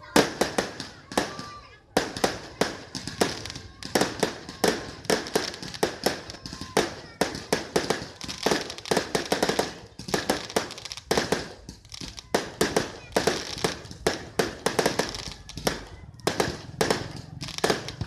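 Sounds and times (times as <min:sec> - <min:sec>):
fireworks banging and crackling: 0:00.0 - 0:18.0.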